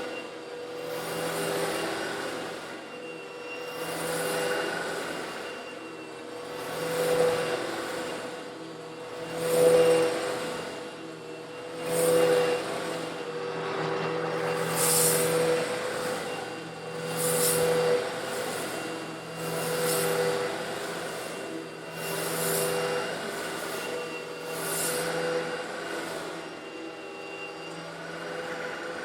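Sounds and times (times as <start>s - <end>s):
vacuum cleaner motor hum: 0.0s - 29.0s.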